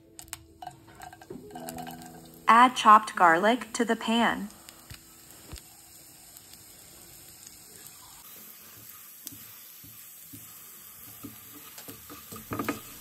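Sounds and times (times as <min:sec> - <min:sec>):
garlic sizzling in butter: 0:00.2 - 0:13.0.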